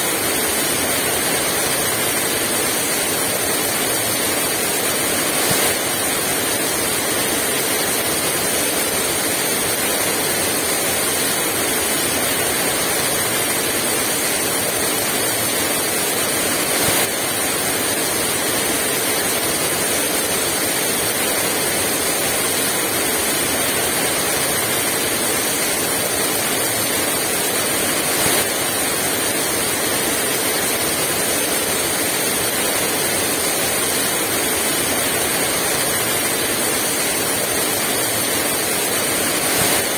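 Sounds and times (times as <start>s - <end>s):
heavy rain pouring: 0.1s - 39.9s.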